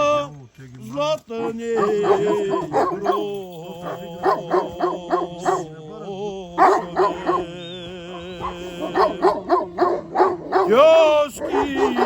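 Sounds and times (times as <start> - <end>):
dogs barking: 1.3 - 12.0.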